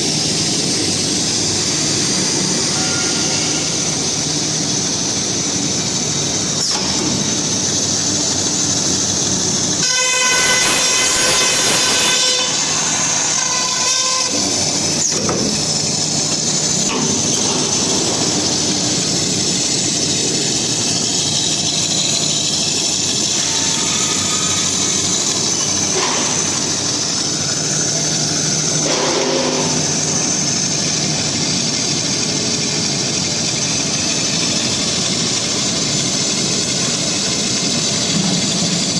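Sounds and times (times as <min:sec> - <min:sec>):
loud machinery noise: 0:00.0 - 0:38.9.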